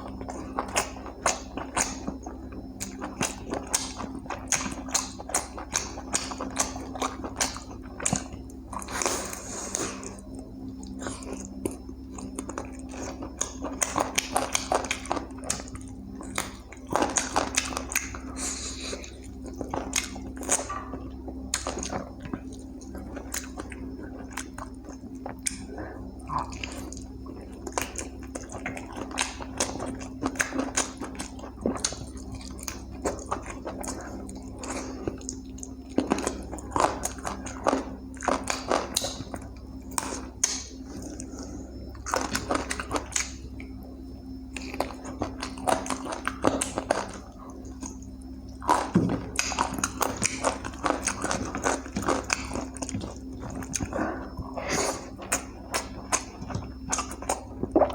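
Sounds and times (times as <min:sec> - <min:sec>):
low hum: 0:00.0 - 0:57.9
wet chewing and biting: 0:00.0 - 0:57.9.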